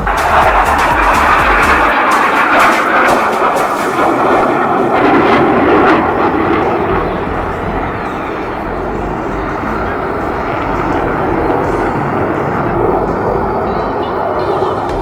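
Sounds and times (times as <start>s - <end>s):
jet aircraft roaring overhead: 0.0s - 15.0s.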